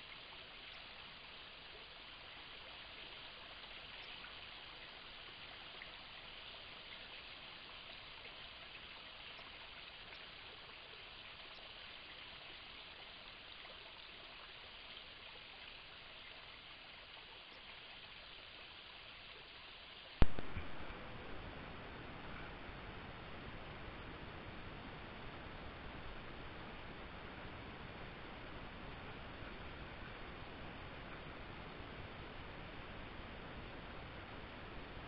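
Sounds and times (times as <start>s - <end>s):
faint rushing hiss: 0.0s - 35.0s.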